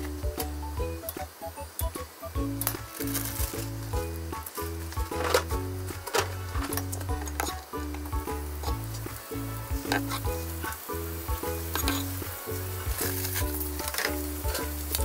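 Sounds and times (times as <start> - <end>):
background music with a beat: 0.0 - 15.0
vegetables sizzling in a pan: 0.0 - 15.0.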